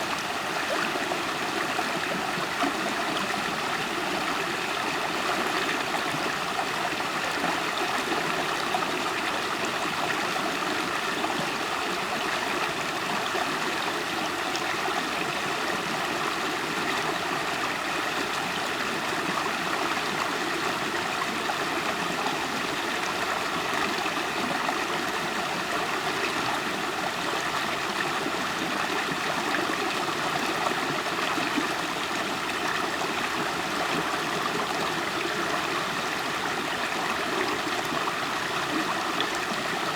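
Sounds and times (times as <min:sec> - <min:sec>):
river water flowing and gurgling: 0:00.0 - 0:39.9.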